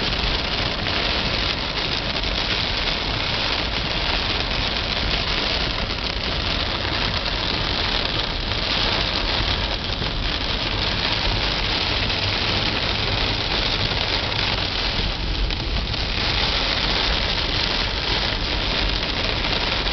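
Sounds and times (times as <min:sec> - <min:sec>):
steady rain hiss: 0:00.0 - 0:19.9.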